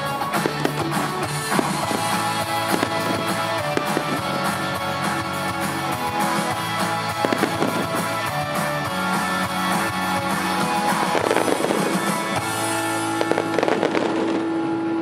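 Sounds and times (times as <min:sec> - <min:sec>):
fireworks bangs: 0:00.0 - 0:14.8
loud music: 0:00.0 - 0:15.0.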